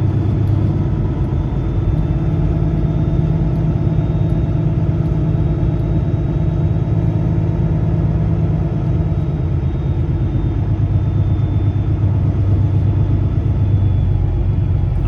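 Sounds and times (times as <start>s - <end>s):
heavy engine humming: 0.0s - 15.0s.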